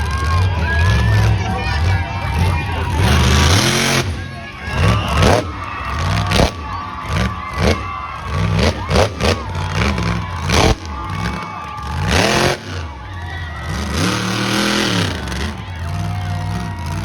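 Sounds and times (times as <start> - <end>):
crowd cheering: 0.0 - 17.0
monster truck engine revving: 0.0 - 17.0.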